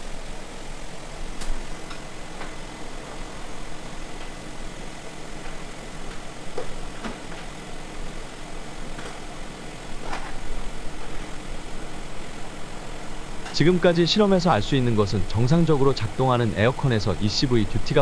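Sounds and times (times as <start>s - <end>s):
air conditioning fan running: 0.0s - 18.0s.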